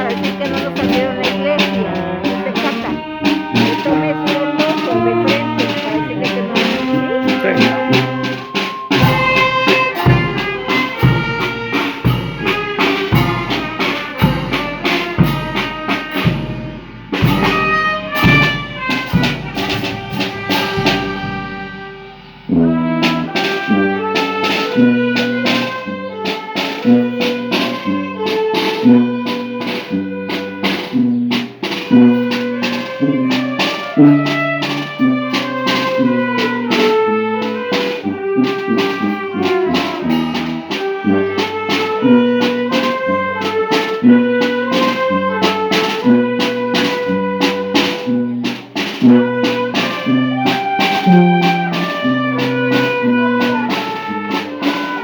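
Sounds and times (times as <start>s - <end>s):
brass band music: 0.0s - 55.0s.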